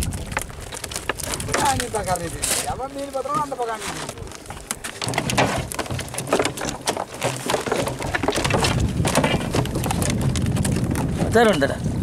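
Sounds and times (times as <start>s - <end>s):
fish thrashing in a boat: 0.0s - 11.5s.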